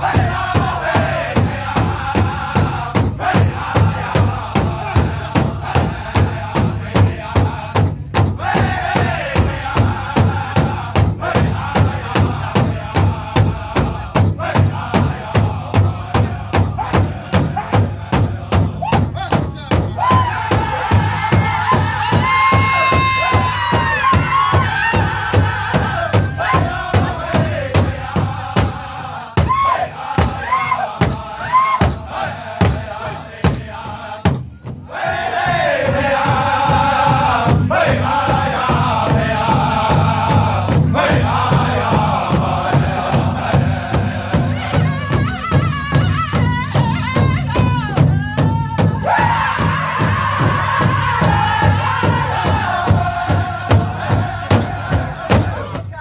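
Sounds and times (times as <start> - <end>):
large drums beating: 0.0 - 56.0
men singing: 0.0 - 56.0.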